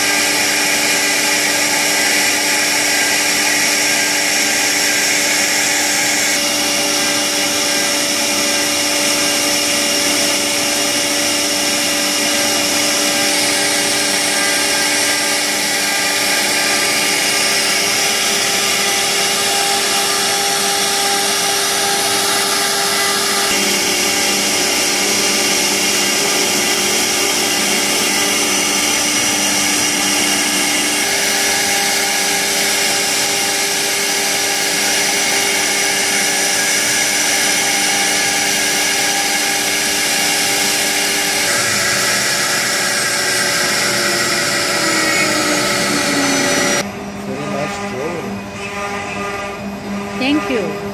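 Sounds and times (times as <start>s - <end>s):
bit cutting wood: 0.0s - 49.4s
router spindle whining: 0.0s - 50.9s.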